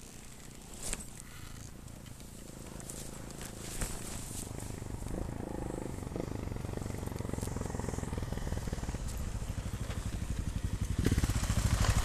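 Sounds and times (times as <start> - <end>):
motorcycle approaching: 0.0 - 12.0
motorcycle engine idling: 0.0 - 12.0.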